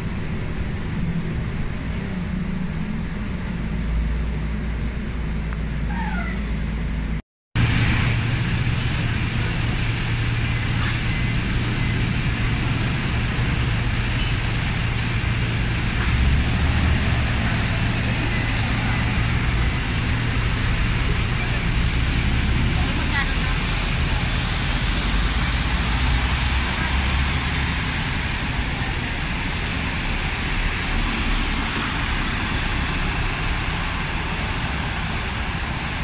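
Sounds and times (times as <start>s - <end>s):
bus engine and road noise: 0.0s - 36.0s
bus diesel engine idling: 5.8s - 36.0s.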